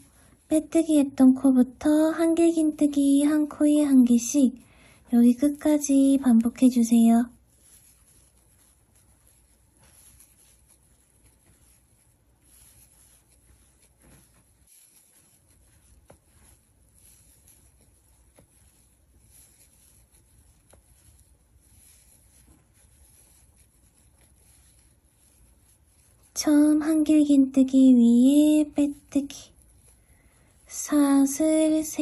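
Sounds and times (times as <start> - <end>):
yarn rustling with crochet hook: 0.0 - 32.0.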